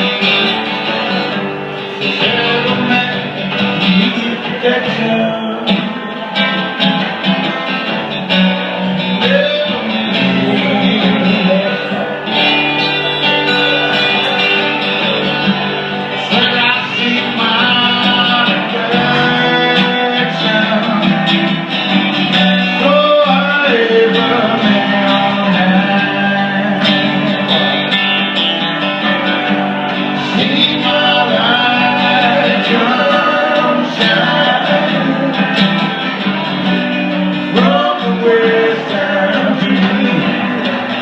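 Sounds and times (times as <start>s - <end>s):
person singing: 0.0s - 6.8s, 9.0s - 28.1s, 29.9s - 36.5s, 37.4s - 41.0s
guitar accompaniment: 0.0s - 41.0s.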